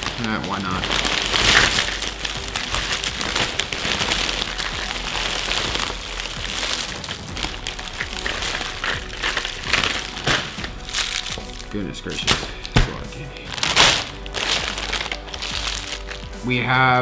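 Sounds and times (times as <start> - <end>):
candy bars spilling onto table: 0.0 - 16.3.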